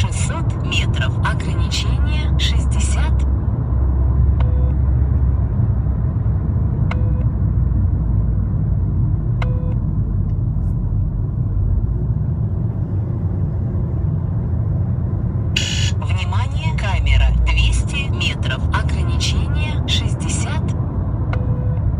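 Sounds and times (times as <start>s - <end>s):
car engine rumbling: 0.0s - 21.9s.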